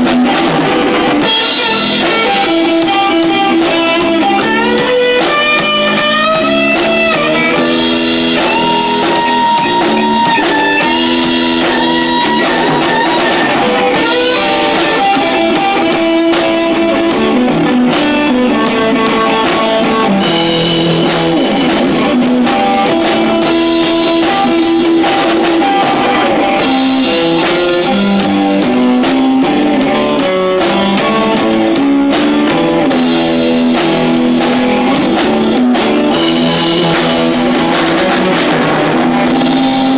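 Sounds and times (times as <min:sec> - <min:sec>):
bass guitar: 0:00.0 - 0:39.9
cymbals keeping a beat: 0:00.0 - 0:39.9
drum kit: 0:00.0 - 0:39.9
electric guitar: 0:00.0 - 0:39.9.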